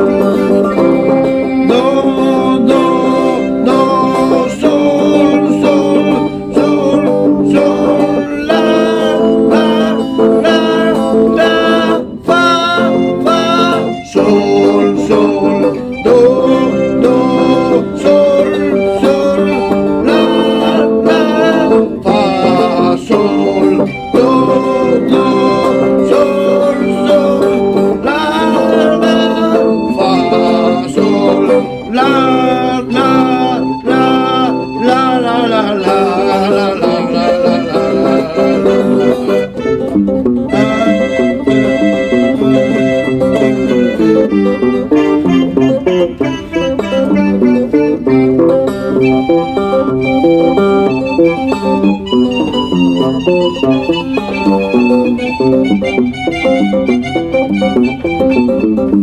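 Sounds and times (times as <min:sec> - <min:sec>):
held chord melody: 0:00.0 - 0:59.0
plucked guitar: 0:00.0 - 0:59.0.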